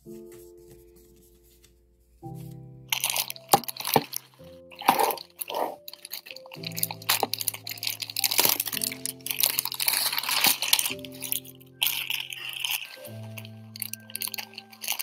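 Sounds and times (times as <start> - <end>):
background music of sustained chords: 0.0 - 15.0
plastic packaging crinkling: 2.2 - 15.0.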